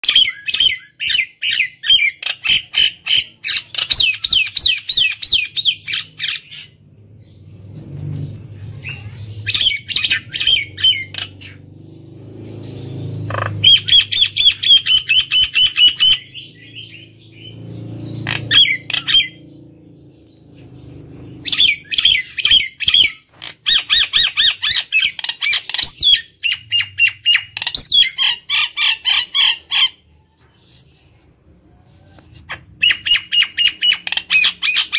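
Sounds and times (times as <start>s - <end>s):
bird chattering song: 0.0s - 34.9s.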